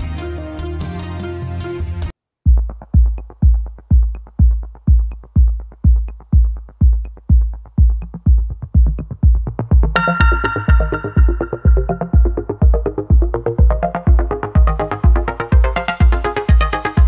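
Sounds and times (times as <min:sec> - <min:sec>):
background music track: 0:00.0 - 0:17.0
electronic music with heavy kick drum: 0:02.4 - 0:17.0.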